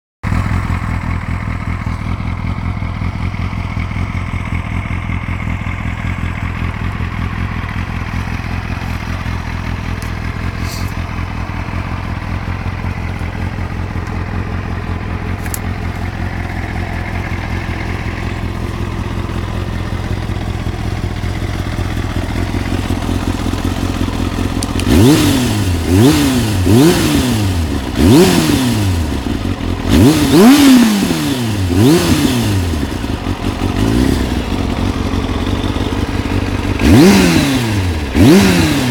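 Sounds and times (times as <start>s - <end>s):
motorcycle engine idling and revving: 0.2s - 38.9s.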